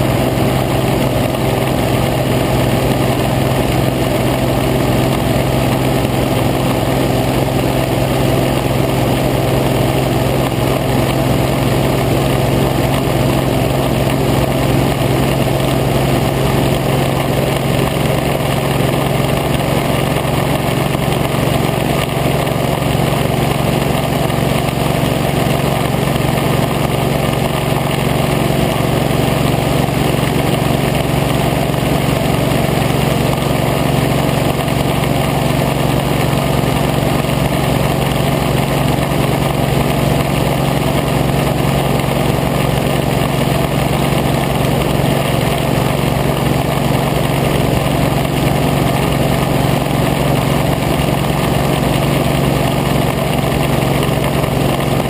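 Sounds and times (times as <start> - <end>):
hovercraft engine drone: 0.0 - 55.0.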